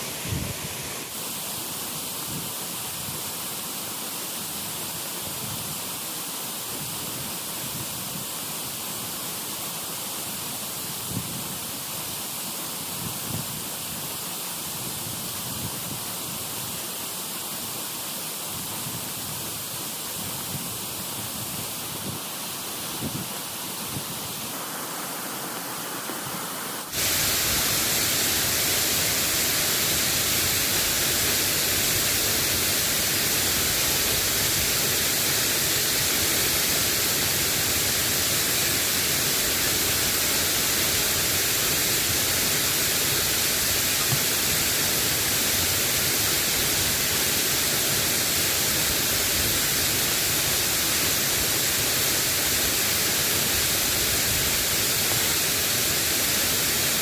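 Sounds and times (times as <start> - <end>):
light rain hissing: 0.0 - 57.0.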